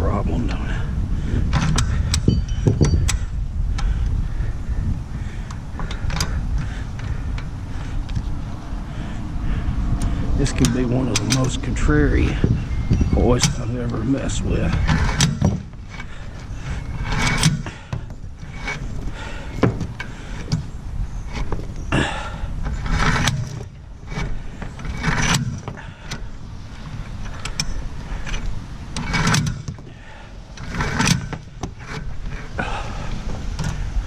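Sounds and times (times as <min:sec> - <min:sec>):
steady low rumble: 0:00.0 - 0:34.0
cable hoist clicking and rattling: 0:01.3 - 0:34.0.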